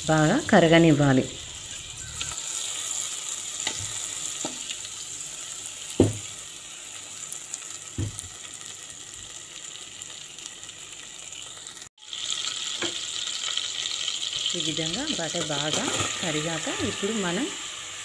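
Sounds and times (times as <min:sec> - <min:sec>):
butter sizzling in saucepan: 0:00.0 - 0:18.0.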